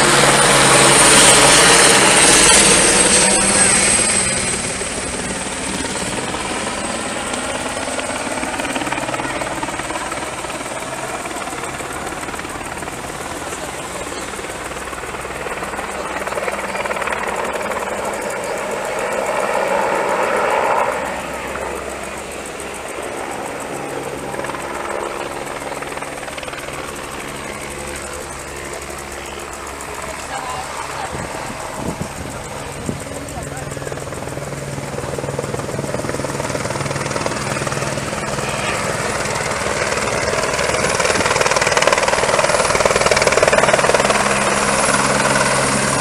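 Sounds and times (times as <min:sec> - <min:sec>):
helicopter rotor and engine drone: 0:00.0 - 0:46.0.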